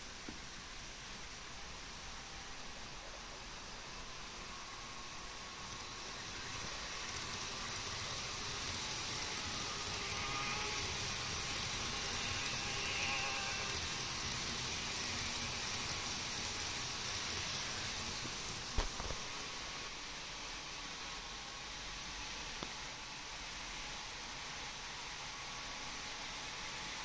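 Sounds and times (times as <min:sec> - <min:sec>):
faint motor whine: 0:00.0 - 0:27.0
model train rolling on track: 0:00.0 - 0:27.0.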